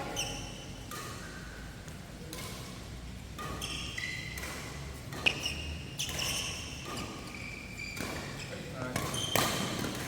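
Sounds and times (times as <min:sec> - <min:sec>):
sneakers squeaking on court floor: 0:00.0 - 0:02.7, 0:03.4 - 0:10.0
racket hitting shuttlecock: 0:00.0 - 0:10.0.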